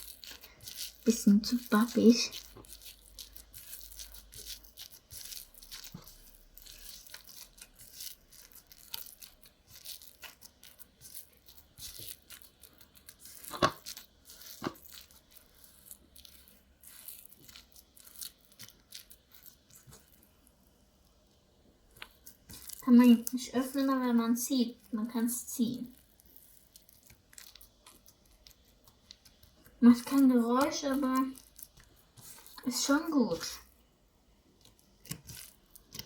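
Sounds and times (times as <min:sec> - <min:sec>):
sticky slime crackling: 0:00.0 - 0:36.0.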